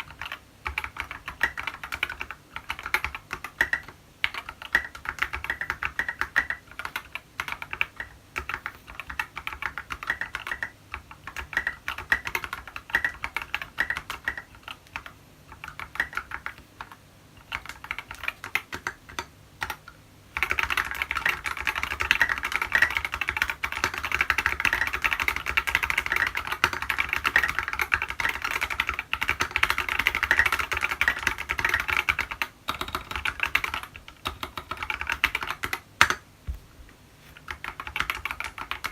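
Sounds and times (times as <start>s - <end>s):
mechanical keyboard typing: 0.0s - 36.2s, 37.4s - 38.9s.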